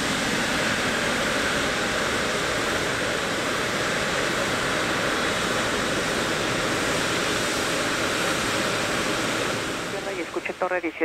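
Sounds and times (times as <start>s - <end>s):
aircraft taxiing rushing noise: 0.0s - 11.0s.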